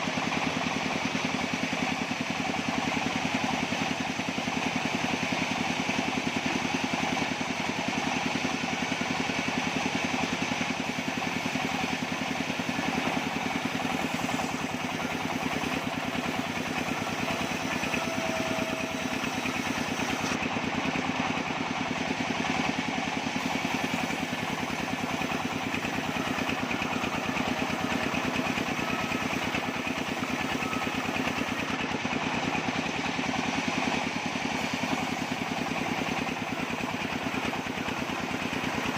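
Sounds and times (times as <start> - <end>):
bandsaw sawmill motor running: 0.0 - 38.9.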